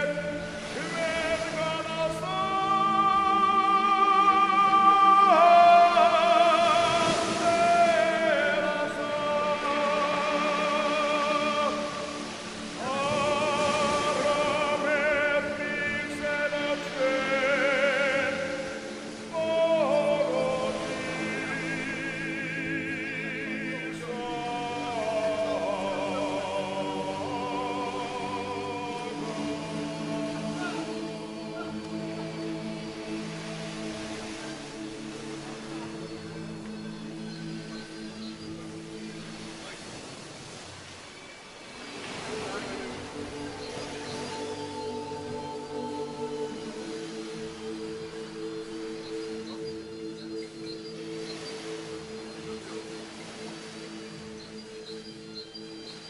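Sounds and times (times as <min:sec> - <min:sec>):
slow melody with vibrato: 0:00.0 - 0:40.0, 0:41.6 - 0:56.0.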